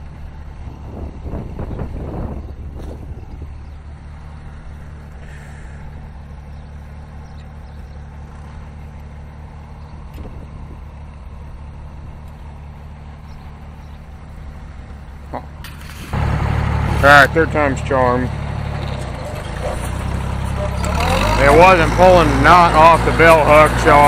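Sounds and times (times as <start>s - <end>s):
tractor engine idling: 0.0s - 24.0s.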